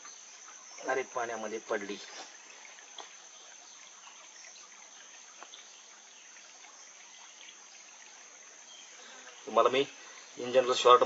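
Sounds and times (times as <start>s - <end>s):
high insect drone: 0.0s - 11.0s
stream trickling: 0.0s - 11.0s.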